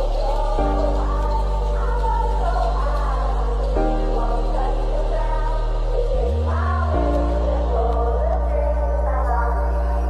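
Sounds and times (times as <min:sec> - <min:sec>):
song with sung vocals: 0:00.0 - 0:10.0.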